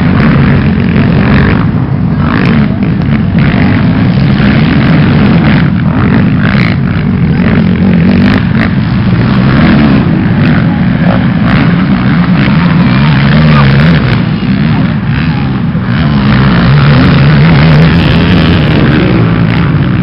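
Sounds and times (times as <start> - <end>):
loud quad engines running hard: 0.0 - 20.0.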